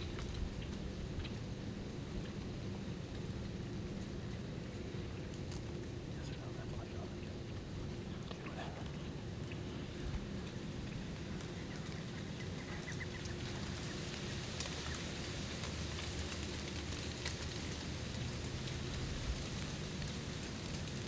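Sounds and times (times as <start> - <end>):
crackling in dry leaves: 0.0 - 21.0
steady low rumble: 0.0 - 21.0.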